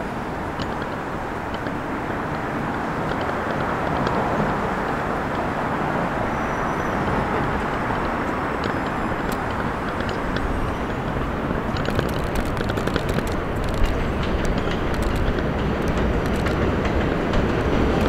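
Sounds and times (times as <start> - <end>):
rapid clicks of train wheels: 0.0 - 18.0
train wheels rumbling on rail: 0.0 - 18.0.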